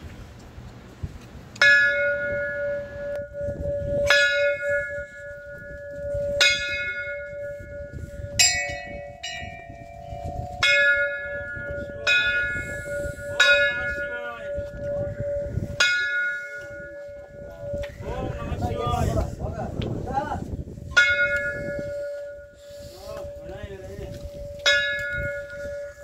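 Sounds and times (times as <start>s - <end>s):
higher pitched bell ring: 1.6s - 18.7s, 20.9s - 26.0s
metal temple bell ringing: 1.6s - 19.1s, 20.9s - 26.0s.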